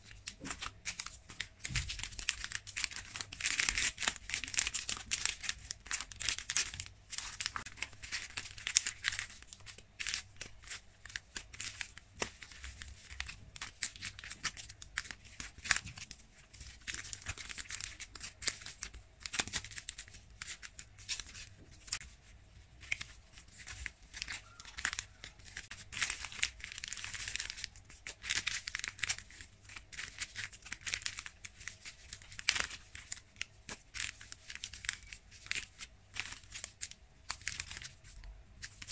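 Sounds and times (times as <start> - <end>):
plastic packaging crinkling: 0.0 - 38.9.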